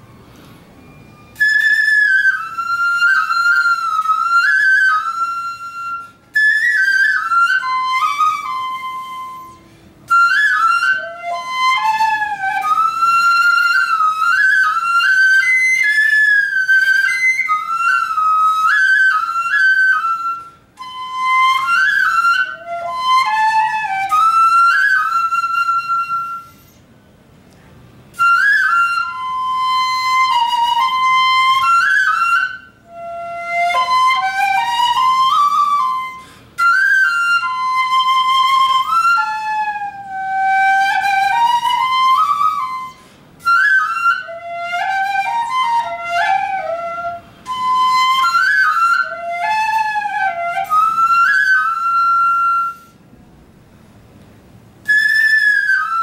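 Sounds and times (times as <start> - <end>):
bamboo flute melody: 0.0 - 27.1, 27.9 - 53.2, 54.8 - 56.0.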